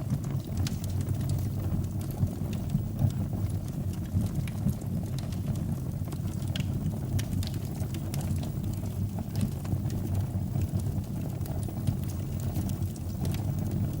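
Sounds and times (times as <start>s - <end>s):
fire crackles and pops: 0.0s - 14.0s.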